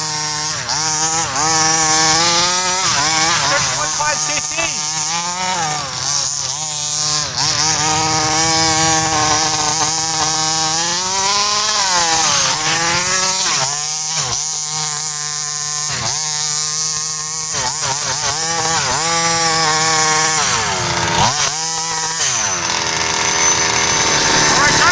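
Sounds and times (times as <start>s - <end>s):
model car engine revving: 0.0s - 24.9s.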